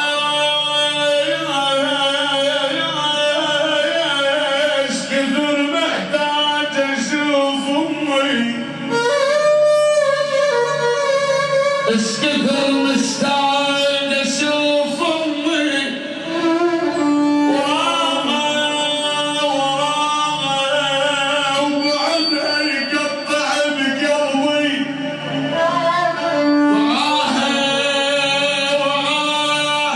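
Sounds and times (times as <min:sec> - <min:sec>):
man singing sad song: 0:00.0 - 0:08.8, 0:11.9 - 0:16.2, 0:17.3 - 0:29.9.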